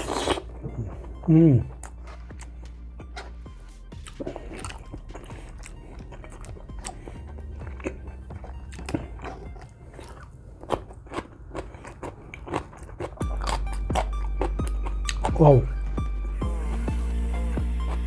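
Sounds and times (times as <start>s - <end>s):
background music: 0.0s - 11.8s, 12.5s - 18.0s
person chewing rice: 0.0s - 16.5s.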